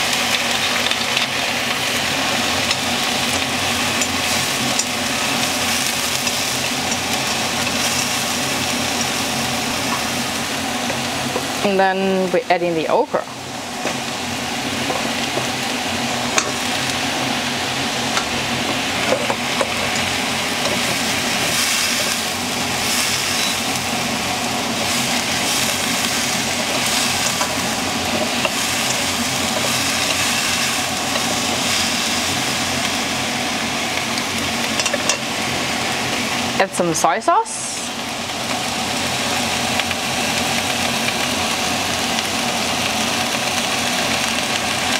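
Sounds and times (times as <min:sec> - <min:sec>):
okra sizzling in hot oil: 0:00.0 - 0:44.9.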